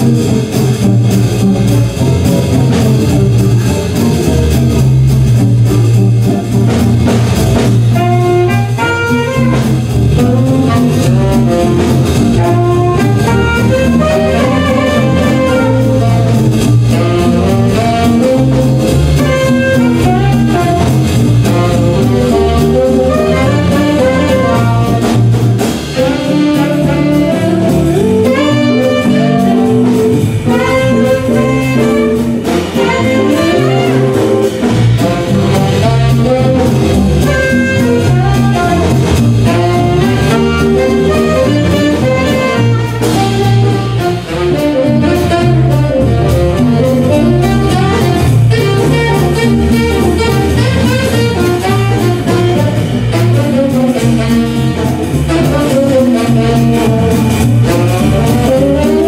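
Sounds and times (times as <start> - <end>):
jazz band playing: 0.0 - 59.0.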